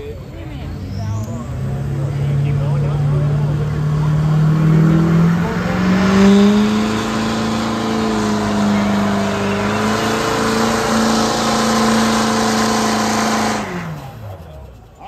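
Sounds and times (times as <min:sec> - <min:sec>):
truck engine at full throttle: 0:00.0 - 0:15.0.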